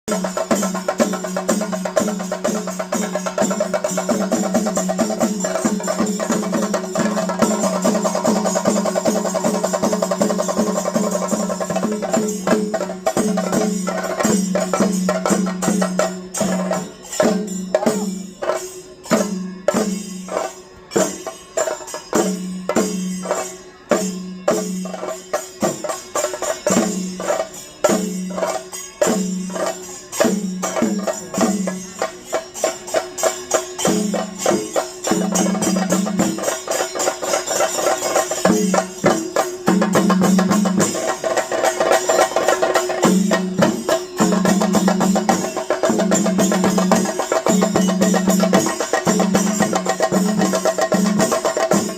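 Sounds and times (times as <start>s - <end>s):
rapid drum strokes: 0.0s - 51.9s
bright jingling strokes: 0.1s - 51.9s.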